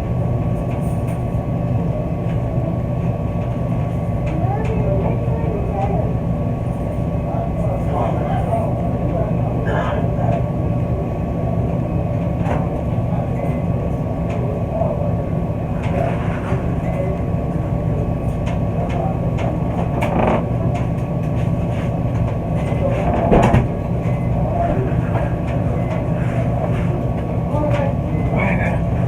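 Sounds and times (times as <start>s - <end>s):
washers and dryers rumbling: 0.0s - 29.0s.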